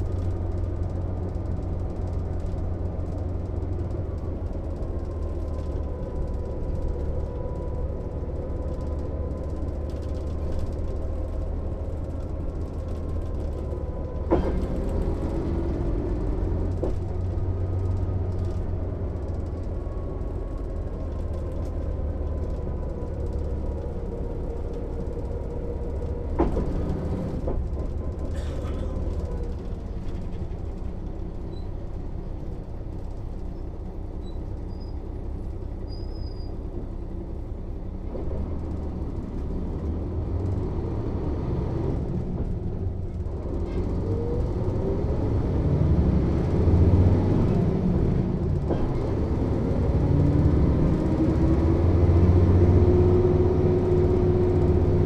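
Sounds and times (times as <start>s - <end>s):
bus diesel engine drone: 0.0s - 55.0s
faint drivetrain whine: 0.0s - 55.0s.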